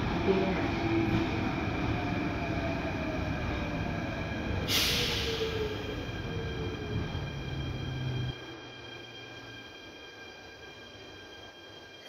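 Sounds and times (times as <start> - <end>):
train rumble: 0.0 - 9.7.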